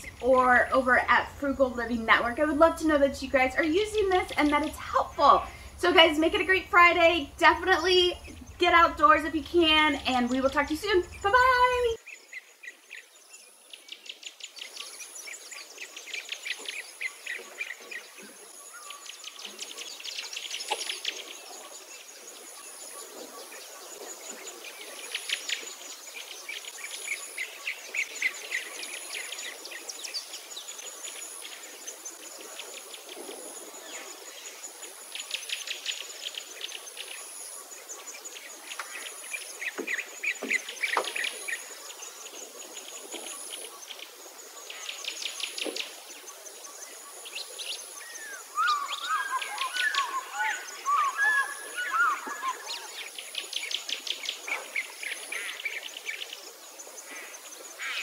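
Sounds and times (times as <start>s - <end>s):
birds chirping trills: 0.0s - 58.0s.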